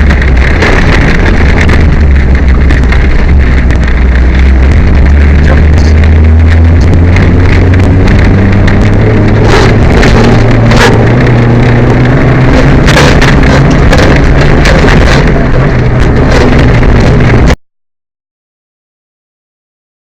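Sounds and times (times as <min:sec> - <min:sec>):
car engine running hard: 0:00.0 - 0:17.6
engine rattling crackles: 0:00.0 - 0:17.6.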